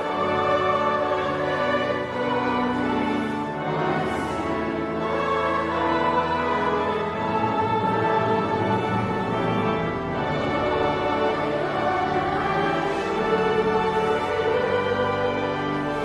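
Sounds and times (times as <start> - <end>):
orchestral music with sustained chords: 0.0 - 16.0.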